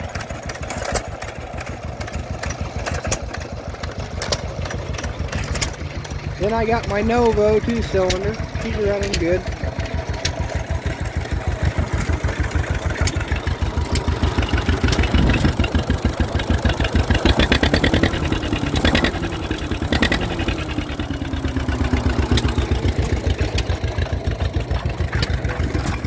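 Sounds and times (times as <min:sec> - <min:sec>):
stationary engine running: 0:00.0 - 0:26.0.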